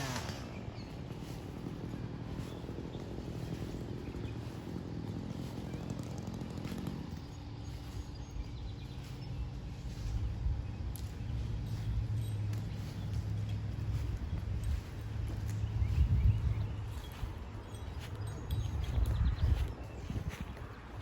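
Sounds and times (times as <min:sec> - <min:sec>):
engine running at low speed: 0:00.0 - 0:21.0.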